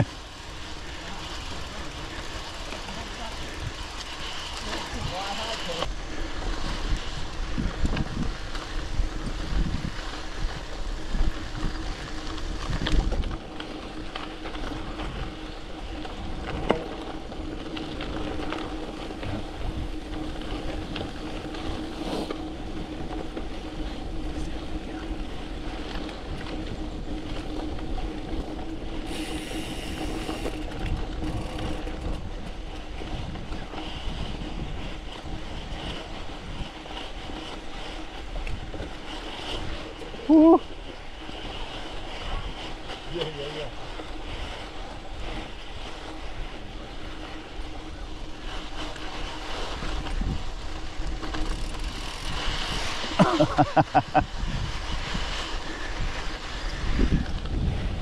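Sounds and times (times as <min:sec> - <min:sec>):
bike tyre noise on dirt: 0:00.0 - 0:58.0
wind rumble on microphone: 0:00.0 - 0:58.0.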